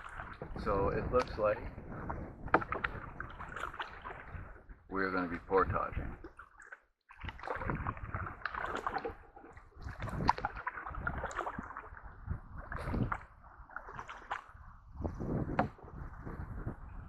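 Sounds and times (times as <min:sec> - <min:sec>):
paddle strokes splashing in water: 0:00.0 - 0:17.0.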